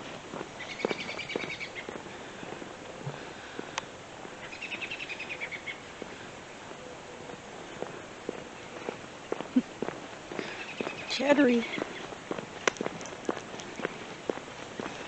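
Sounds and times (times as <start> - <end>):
footsteps on pavement: 0.0 - 5.0, 5.7 - 15.0.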